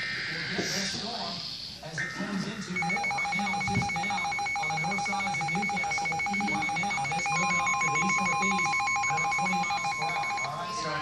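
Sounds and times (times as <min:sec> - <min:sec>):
continuous alarm tone: 0:00.0 - 0:11.0.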